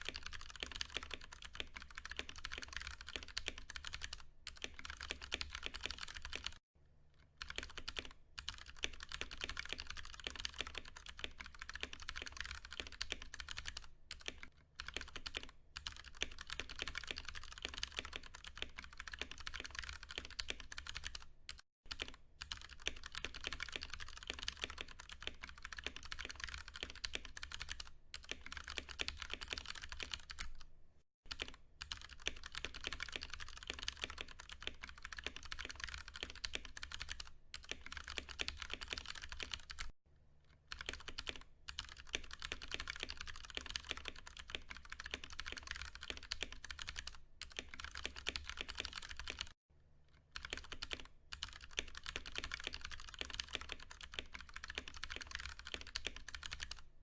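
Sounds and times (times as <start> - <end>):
mechanical keyboard typing: 0.0 - 6.6, 7.4 - 30.7, 31.3 - 39.9, 40.7 - 49.6, 50.4 - 56.9.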